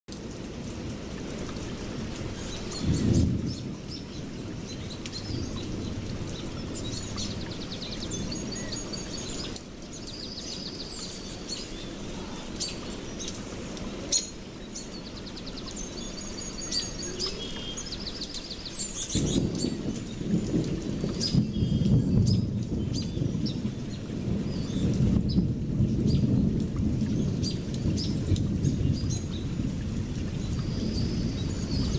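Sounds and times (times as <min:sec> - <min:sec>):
small birds chirping and trilling: 0:01.5 - 0:31.9.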